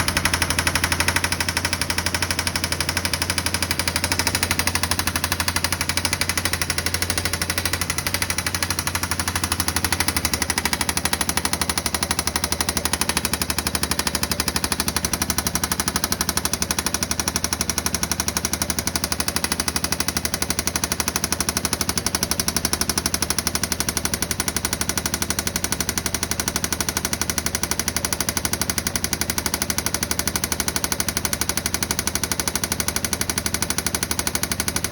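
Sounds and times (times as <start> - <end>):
engine running with rapid knock: 0.0 - 34.9.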